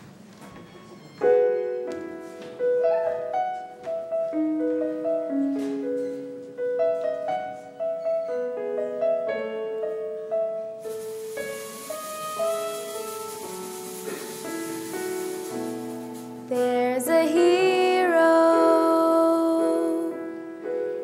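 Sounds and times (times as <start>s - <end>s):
piano playing broken chords: 1.1s - 21.0s.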